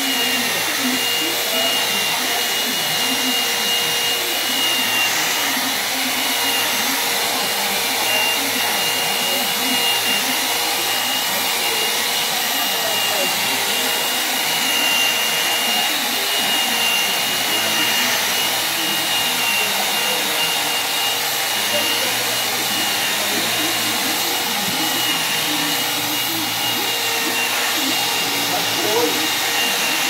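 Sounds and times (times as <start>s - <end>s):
angle grinder polishing stone: 0.0s - 30.0s.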